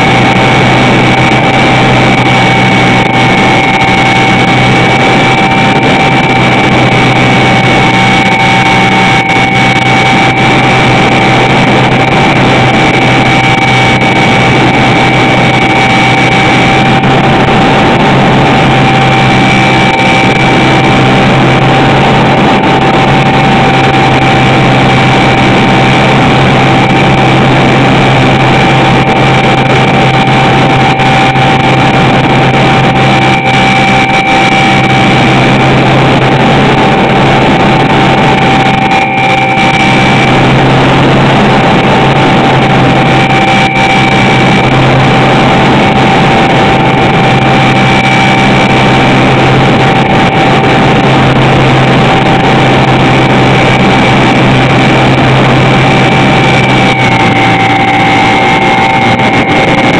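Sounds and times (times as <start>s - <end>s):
electric motor and propeller whine: 0.0s - 59.9s
rushing air: 0.0s - 59.9s.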